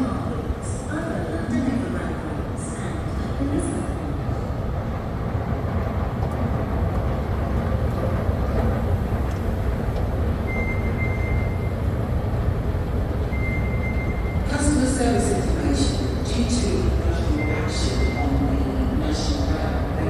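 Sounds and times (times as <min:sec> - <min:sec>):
escalator rumble: 0:00.0 - 0:20.0.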